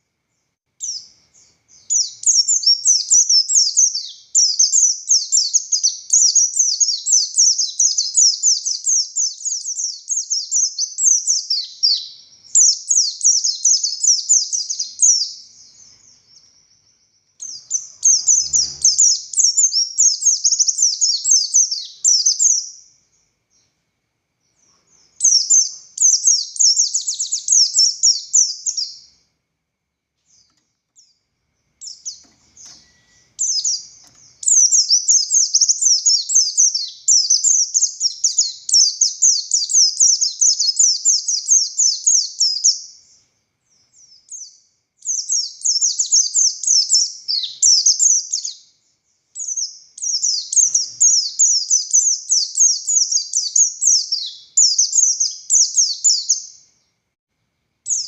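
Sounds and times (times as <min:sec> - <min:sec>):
bird twittering song: 0:00.0 - 0:23.8, 0:24.4 - 0:29.3, 0:30.2 - 0:57.0.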